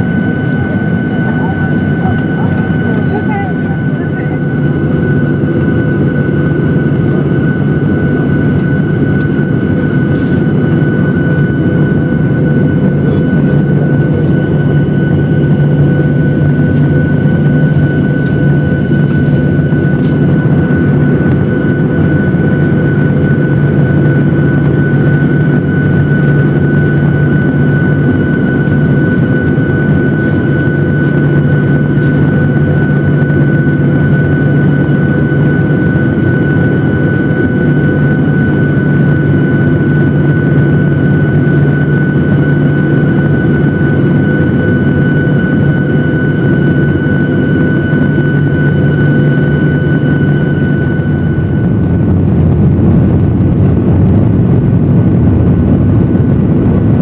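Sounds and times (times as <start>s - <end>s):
jet engines droning with whine: 0.0s - 57.0s.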